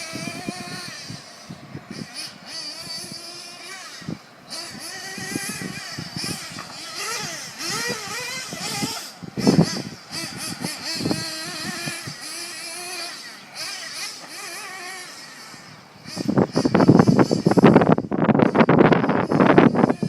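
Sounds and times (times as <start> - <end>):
nitro engine revving: 0.0 - 20.0.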